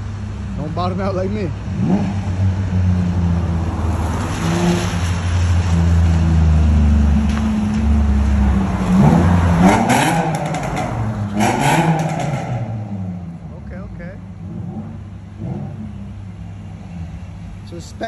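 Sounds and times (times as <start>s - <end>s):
car engine exhaust drone and revving: 0.0s - 18.0s.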